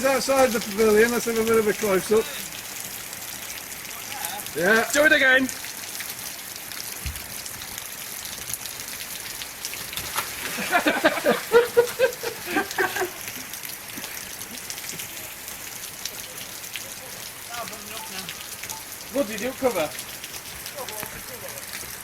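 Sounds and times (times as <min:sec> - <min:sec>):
rain hissing: 0:00.0 - 0:22.0.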